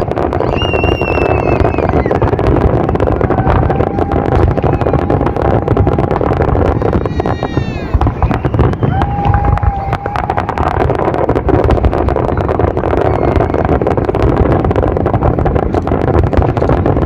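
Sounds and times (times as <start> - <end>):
fireworks crackling and banging: 0.0 - 17.0
low rumble: 0.0 - 17.0
whistling fireworks: 0.0 - 17.0.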